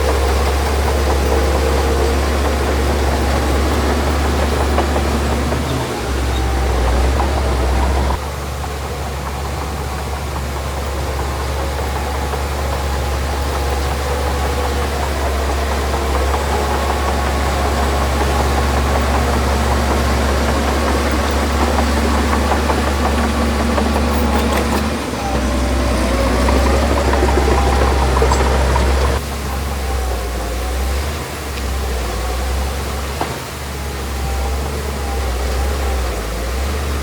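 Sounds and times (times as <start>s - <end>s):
heavy diesel engine rumbling: 0.0s - 37.0s.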